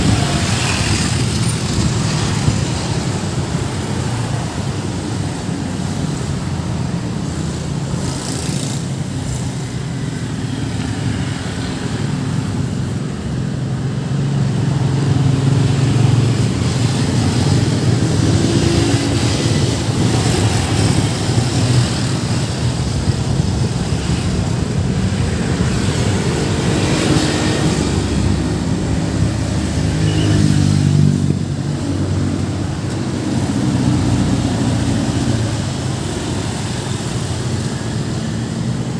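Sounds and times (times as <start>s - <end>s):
car engines passing: 0.0s - 38.9s
motorcycle engines passing: 0.0s - 38.9s.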